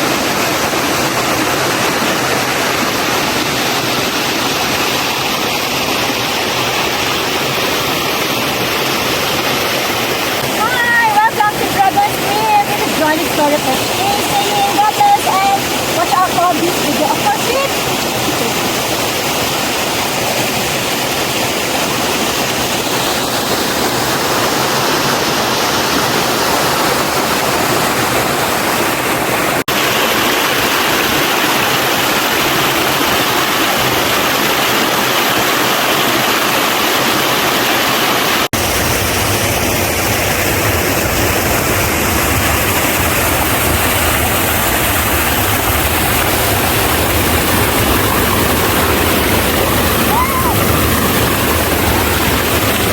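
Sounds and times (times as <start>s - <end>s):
rushing mountain stream: 0.0s - 52.9s.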